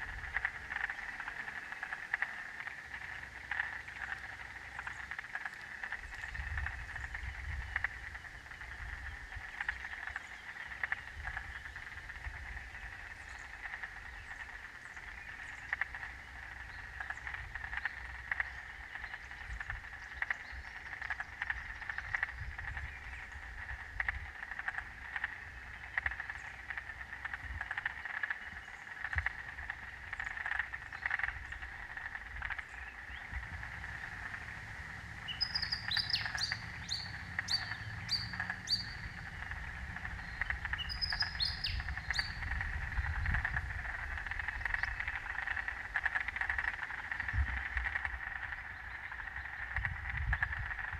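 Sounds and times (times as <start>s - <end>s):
bird calls: 0.0s - 50.7s
frog chorus: 0.0s - 50.9s.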